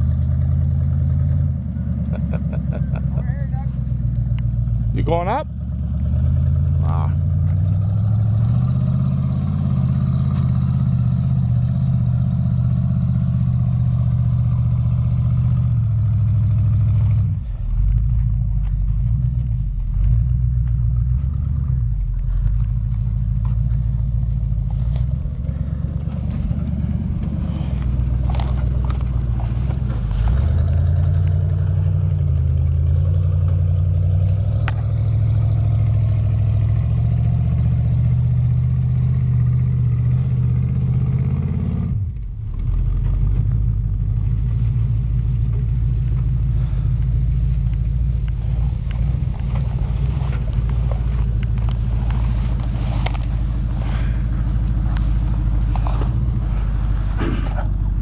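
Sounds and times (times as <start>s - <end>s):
truck engine under load: 0.0s - 58.0s.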